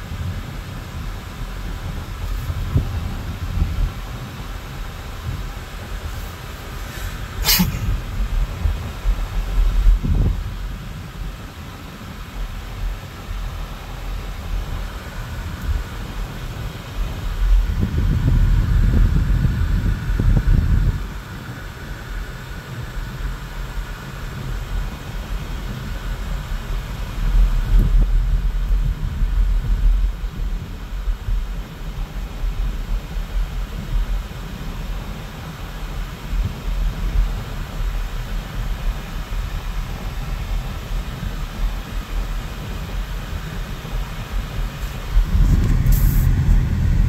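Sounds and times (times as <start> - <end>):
car cabin road rumble: 0.0 - 47.0.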